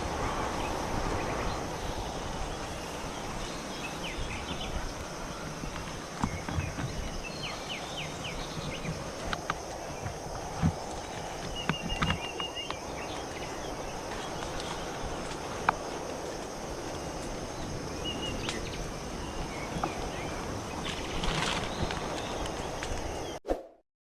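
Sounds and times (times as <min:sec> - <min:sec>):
steady rushing noise: 0:00.0 - 0:23.4.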